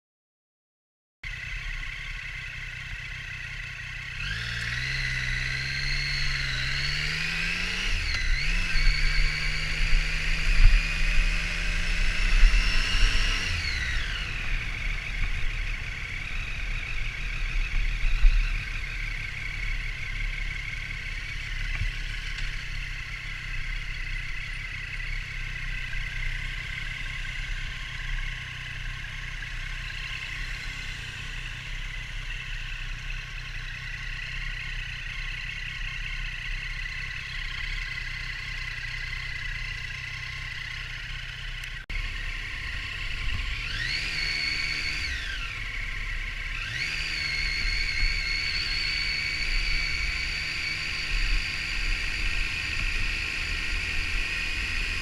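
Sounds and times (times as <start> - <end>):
motorcycle engine revving: 1.3 - 55.0.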